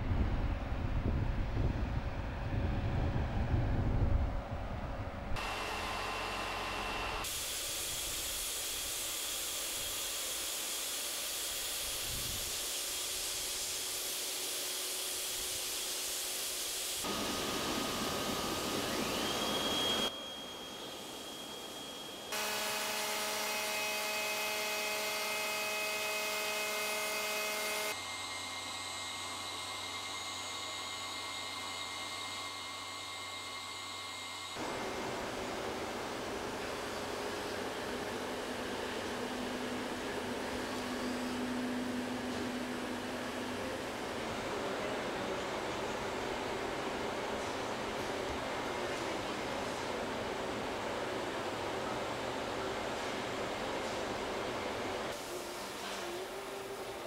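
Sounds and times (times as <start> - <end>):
machinery hissing and humming: 5.3 - 57.0.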